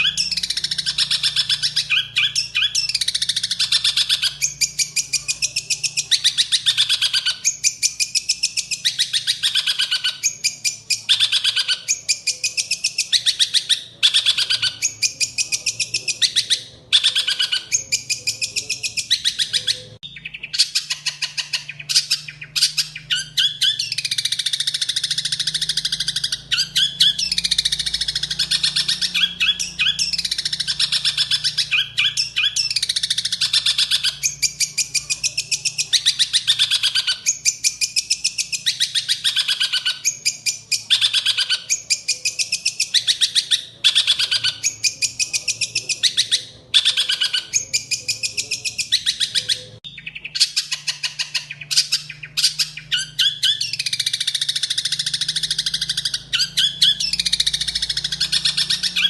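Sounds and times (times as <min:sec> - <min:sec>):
songbird trilling: 0:00.0 - 0:59.0.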